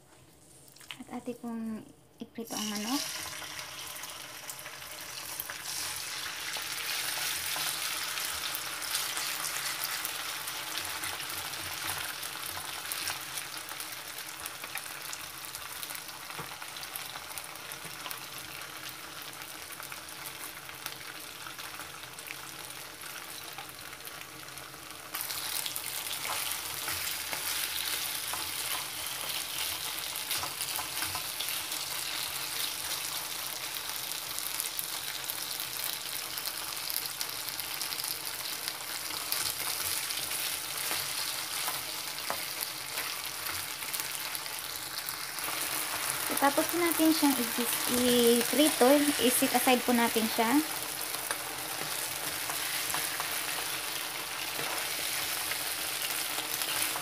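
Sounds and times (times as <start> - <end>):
chicken sizzling in hot oil: 2.4 - 57.0.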